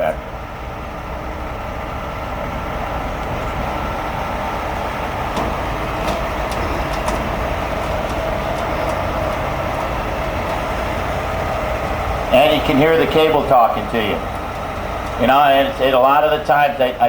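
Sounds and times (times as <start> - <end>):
engine and winch hydraulics whining: 0.0 - 17.0.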